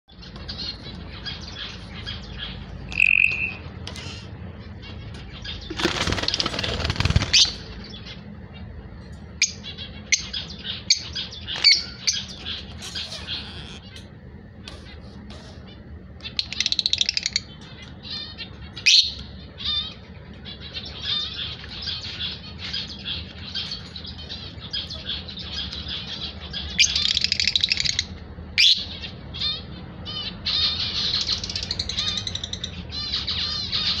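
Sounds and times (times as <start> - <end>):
lovebirds chirping: 0.1 - 34.0.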